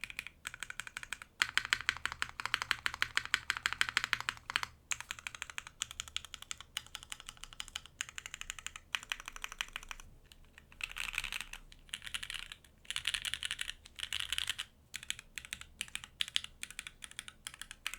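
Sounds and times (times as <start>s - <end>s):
fast typing on mechanical keyboard: 0.0s - 17.9s.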